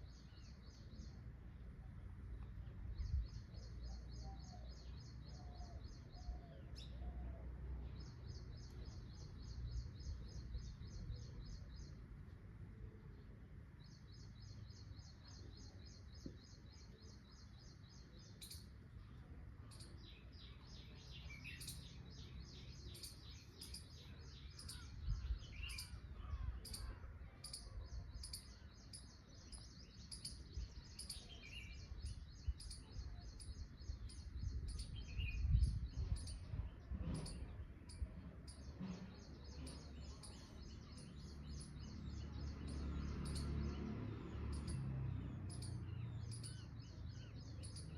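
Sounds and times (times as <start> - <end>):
birds chirping: 0.0 - 12.1, 13.0 - 47.9.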